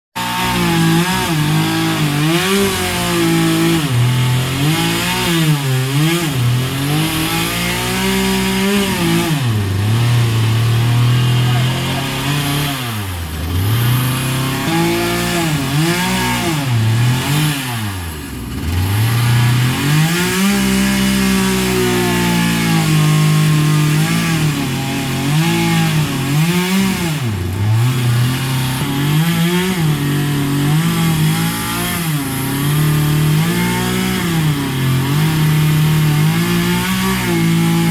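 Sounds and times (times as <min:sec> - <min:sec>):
chainsaw engine running: 0:00.2 - 0:37.9.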